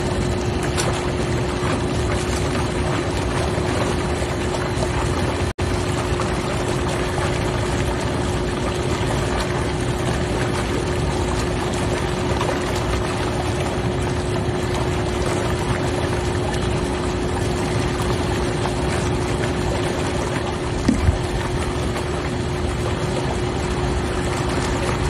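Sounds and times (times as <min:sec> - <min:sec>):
hot tub water churning: 0:00.0 - 0:25.0.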